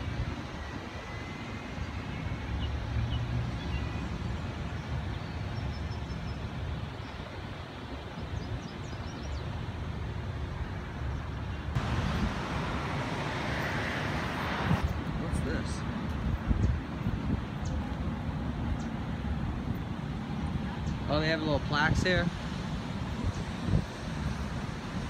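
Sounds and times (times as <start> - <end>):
distant road traffic rumble: 0.0 - 25.0.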